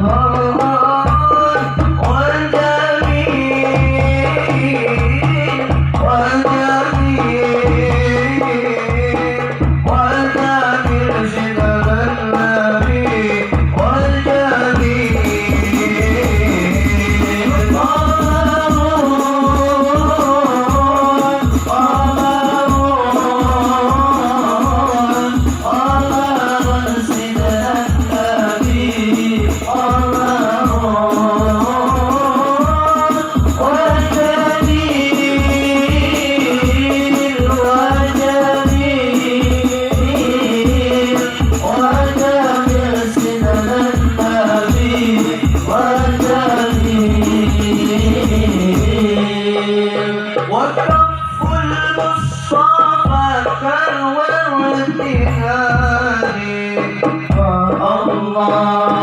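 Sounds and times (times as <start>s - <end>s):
hand drums beat: 0.0s - 59.0s
rattling percussion: 0.0s - 59.0s.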